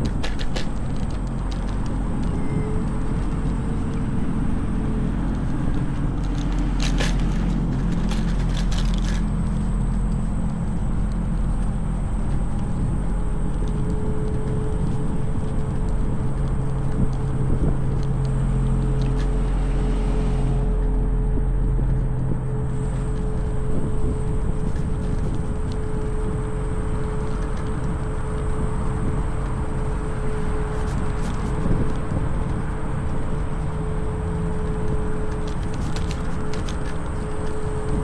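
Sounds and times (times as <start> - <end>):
scooter wheels rumbling: 0.0 - 38.0
wind on microphone: 0.0 - 38.0.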